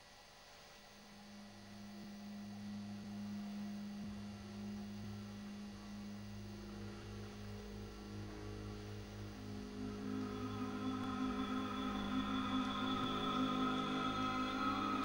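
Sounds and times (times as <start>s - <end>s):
ambient music drone: 1.0s - 15.0s
faint higher tones: 1.1s - 15.0s.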